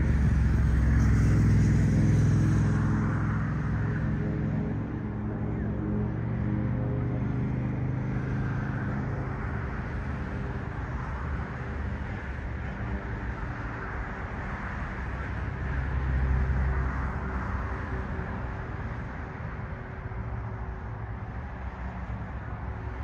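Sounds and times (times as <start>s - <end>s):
outdoor rumble and hiss: 0.0s - 23.0s.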